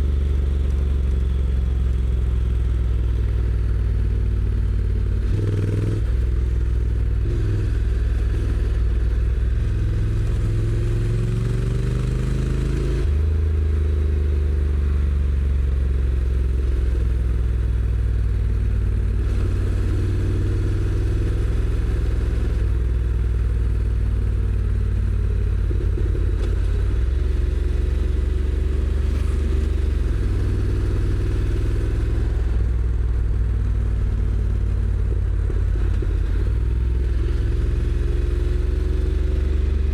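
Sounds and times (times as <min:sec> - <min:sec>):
motorcycle engine accelerating: 0:03.2 - 0:39.9.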